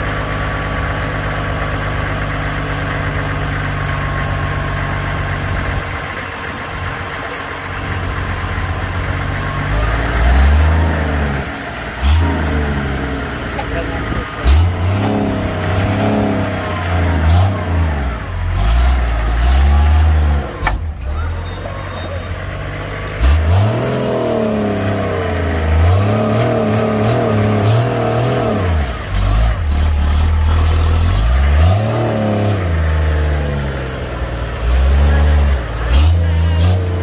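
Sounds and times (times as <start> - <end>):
truck engine revving hard: 0.0 - 37.0.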